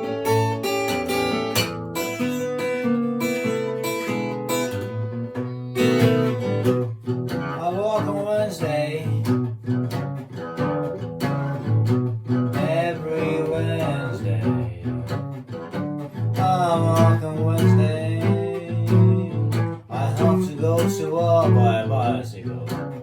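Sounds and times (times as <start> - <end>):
fingerpicked blues acoustic guitar: 0.0 - 23.0.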